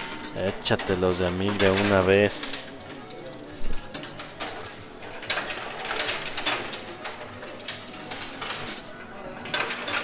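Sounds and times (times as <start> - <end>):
coin pusher mechanical clatter: 0.0 - 10.0.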